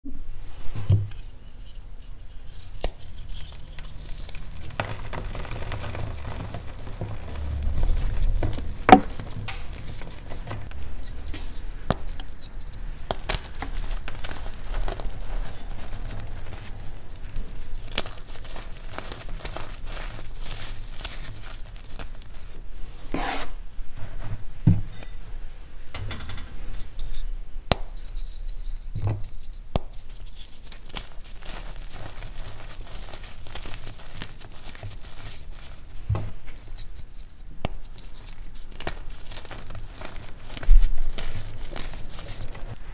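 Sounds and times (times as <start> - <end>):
chalk crunching in hands: 1.2 - 22.6, 27.8 - 42.9
chalk chunks snapping: 2.4 - 22.6, 27.7 - 42.8.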